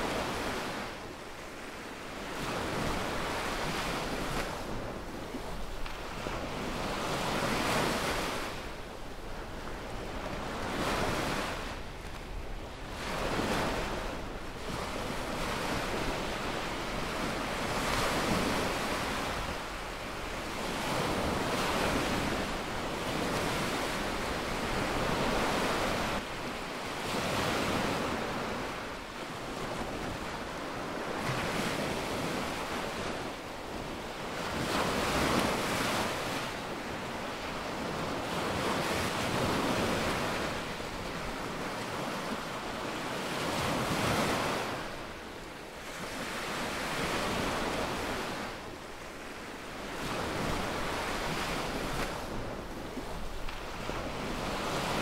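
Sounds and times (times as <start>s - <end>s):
waves washing up a beach: 0.0s - 55.0s.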